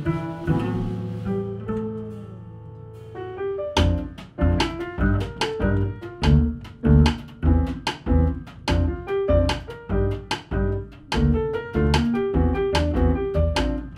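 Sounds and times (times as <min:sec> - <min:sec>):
jazz piano trio playing: 0:00.0 - 0:13.9.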